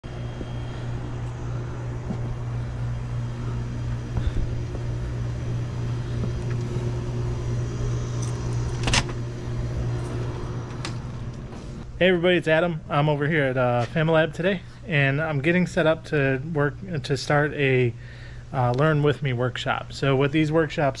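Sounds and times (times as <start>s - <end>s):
air conditioning units humming: 0.0s - 21.0s.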